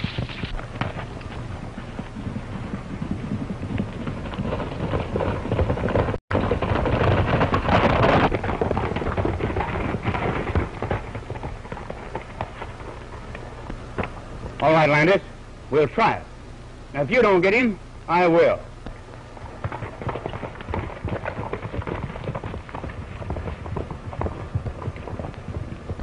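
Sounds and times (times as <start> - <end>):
horses galloping on dirt: 0.0 - 15.3, 18.2 - 26.0.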